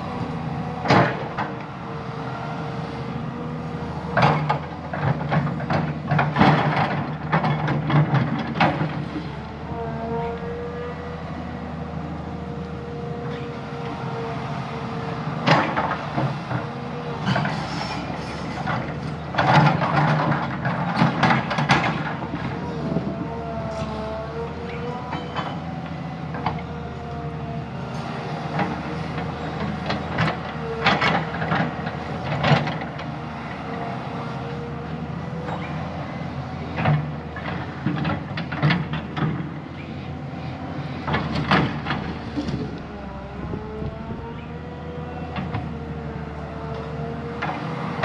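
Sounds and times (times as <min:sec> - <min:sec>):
heavy machinery diesel engine running: 0:00.0 - 0:48.0.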